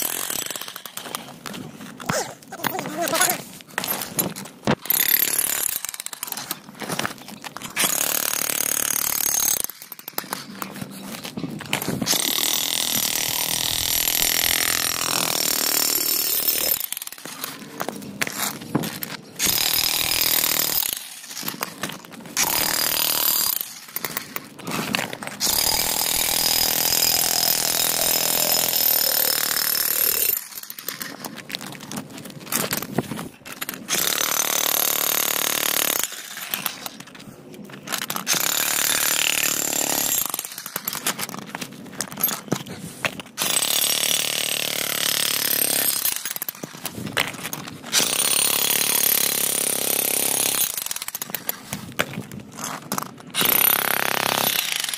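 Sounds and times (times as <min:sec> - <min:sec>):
electric jackhammer hammering concrete: 0:00.0 - 0:01.3, 0:02.1 - 0:07.1, 0:07.7 - 0:10.5, 0:11.6 - 0:17.5, 0:18.2 - 0:31.1, 0:33.5 - 0:37.0, 0:37.9 - 0:41.4, 0:43.4 - 0:51.5, 0:52.8 - 0:54.9.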